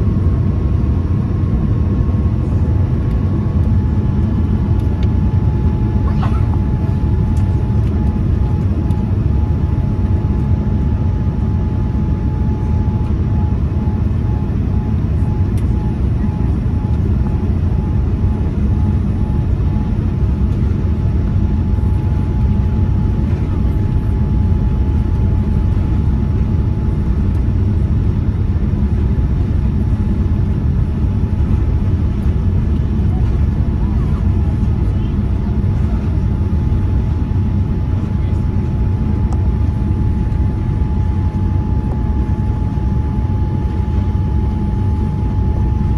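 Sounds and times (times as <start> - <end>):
aircraft cabin engine rumble: 0.0 - 45.9
faint steady whine: 0.0 - 45.9.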